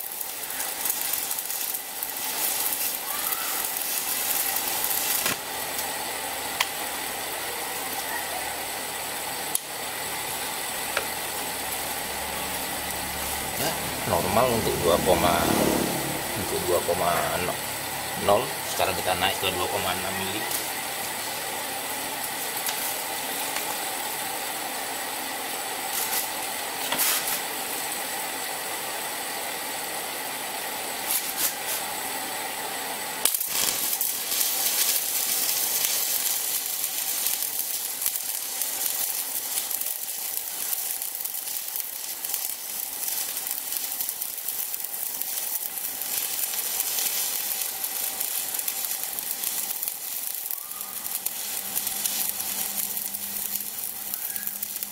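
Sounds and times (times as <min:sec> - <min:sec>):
steady hiss: 0:00.0 - 0:54.9
welding arc crackling and sizzling: 0:00.0 - 0:54.9.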